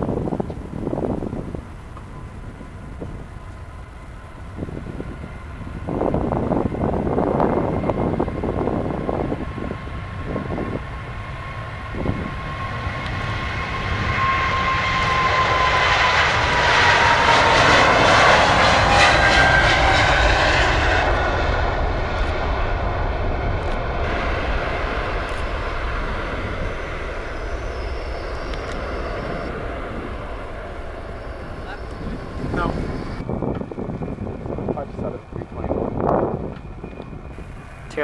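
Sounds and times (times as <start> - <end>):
jet engines at takeoff: 0.0 - 38.0.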